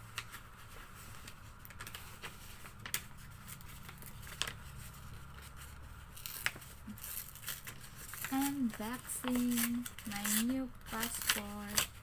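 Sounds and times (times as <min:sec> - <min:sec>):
paper envelope tearing: 0:00.1 - 0:12.0.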